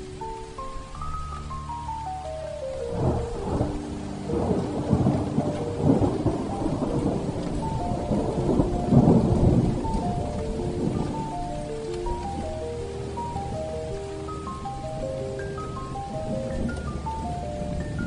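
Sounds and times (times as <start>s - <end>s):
heavy rain: 0.0s - 18.0s
soft slow melody: 0.0s - 18.0s
thunder rumbling: 0.0s - 18.0s.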